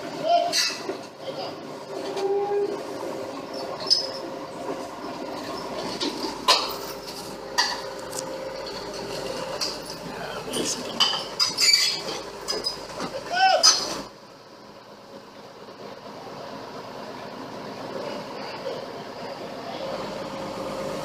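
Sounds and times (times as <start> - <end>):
excavator engine hum: 0.0 - 21.0.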